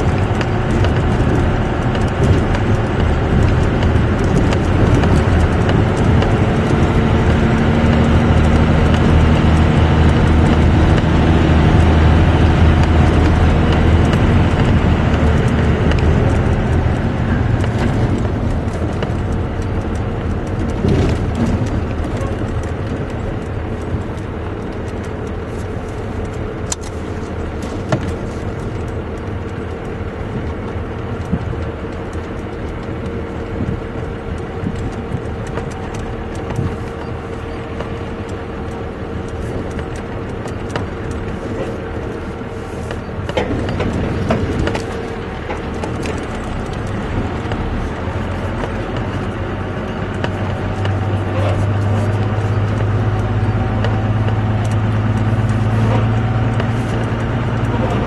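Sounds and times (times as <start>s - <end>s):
light ticks: 0.0s - 42.2s, 42.8s - 58.0s
diesel engine under load: 0.0s - 58.0s.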